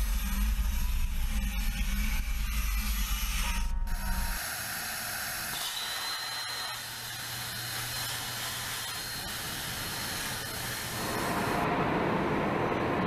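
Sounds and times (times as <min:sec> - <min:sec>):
laser cutter hiss: 0:00.0 - 0:11.6.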